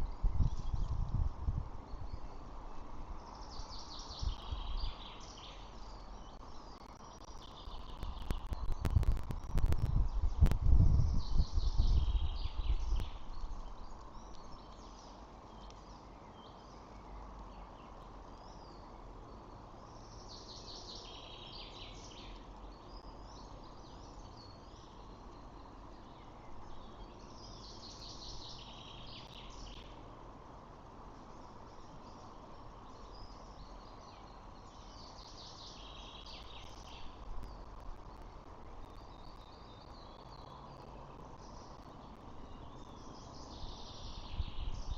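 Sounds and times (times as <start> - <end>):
birds chirping: 1.8 - 30.0, 30.8 - 44.9.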